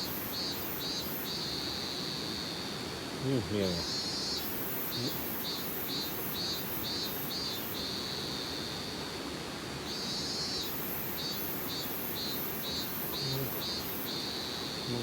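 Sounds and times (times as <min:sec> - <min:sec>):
insect trilling and chirping: 0:00.0 - 0:09.1, 0:09.8 - 0:15.0.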